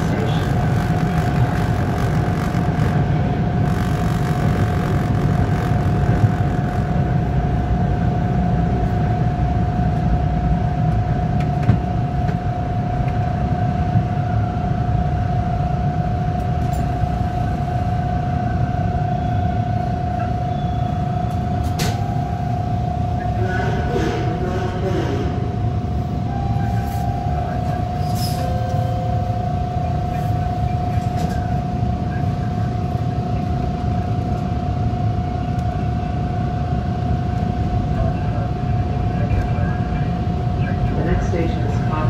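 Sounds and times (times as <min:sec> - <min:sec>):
train wheels rumbling on rails: 0:00.0 - 0:14.5, 0:16.4 - 0:36.4
train high whine: 0:00.0 - 0:42.0.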